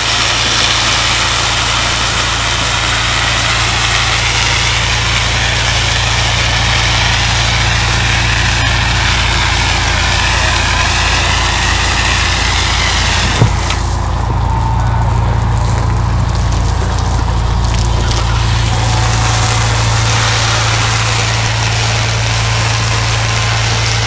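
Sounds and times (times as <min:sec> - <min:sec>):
fire hose spraying water: 0:00.0 - 0:24.0
low engine hum: 0:00.0 - 0:24.0.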